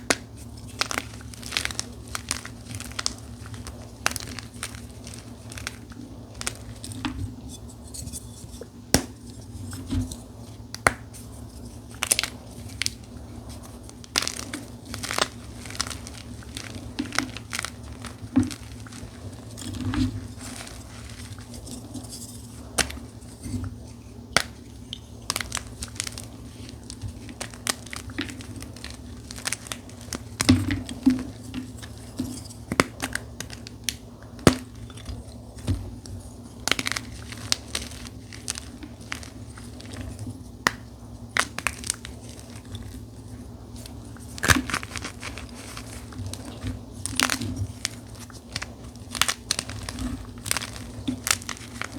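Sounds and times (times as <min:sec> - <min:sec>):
chalk crunching and crumbling: 0:00.0 - 0:51.9
faint low hum: 0:00.0 - 0:51.9.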